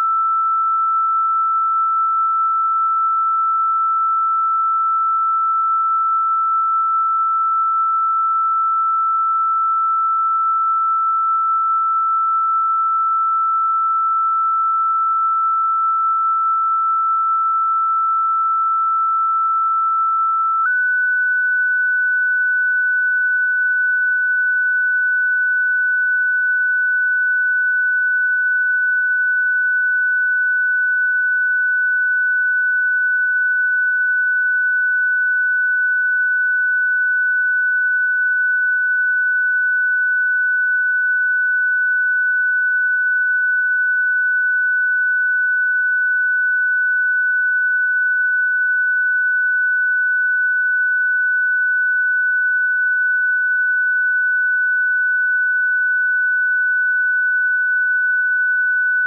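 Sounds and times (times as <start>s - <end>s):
electronic sine tone: 0.0s - 59.0s.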